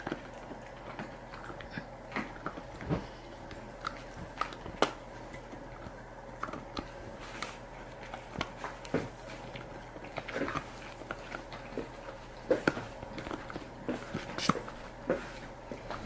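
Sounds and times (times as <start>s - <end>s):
puppy chewing crunches: 0.0s - 16.0s.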